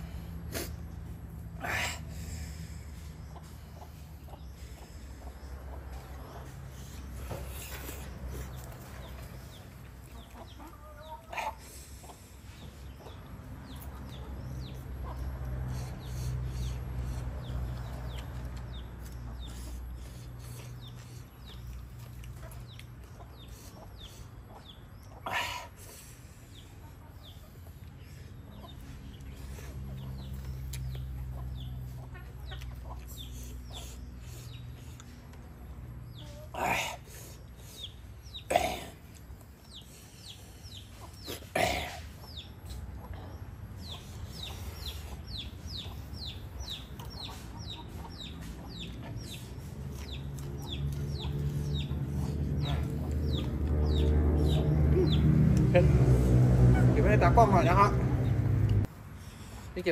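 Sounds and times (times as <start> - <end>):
chickens clucking: 0.0 - 59.9
small birds chirping: 0.0 - 59.9.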